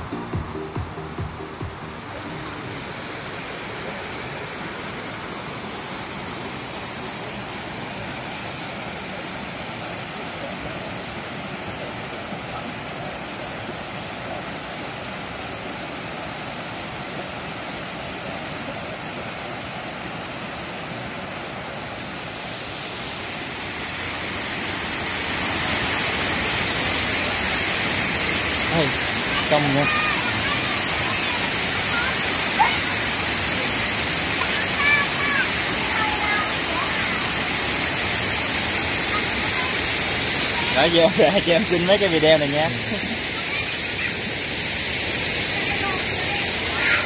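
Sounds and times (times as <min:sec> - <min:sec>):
waterfall cascading over rocks: 0:00.0 - 0:47.0.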